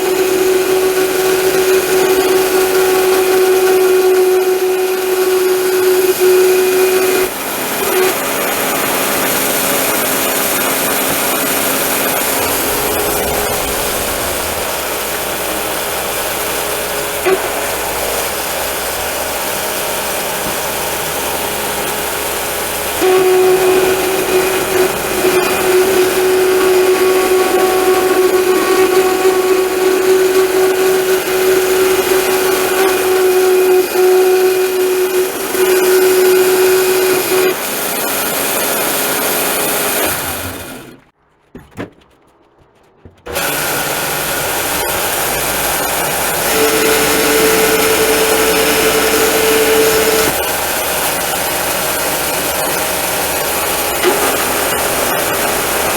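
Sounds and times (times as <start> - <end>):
sawmill motor and blade whine: 0.0 - 41.0, 43.3 - 55.9.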